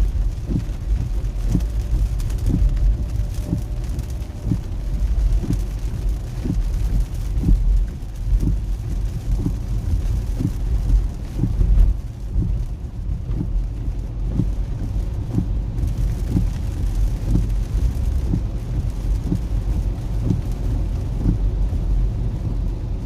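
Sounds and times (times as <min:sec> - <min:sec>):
rain hiss: 0:00.0 - 0:23.0
road and engine rumble: 0:00.0 - 0:23.0.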